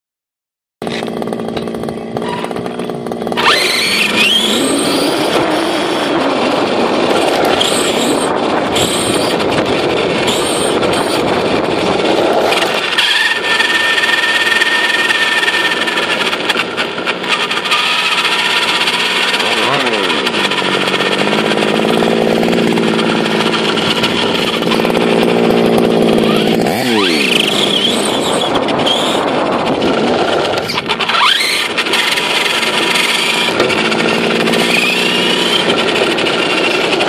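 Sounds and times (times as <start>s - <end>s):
rc truck motor whine: 0.8s - 37.0s
tyres rattling over rough asphalt: 0.8s - 37.0s.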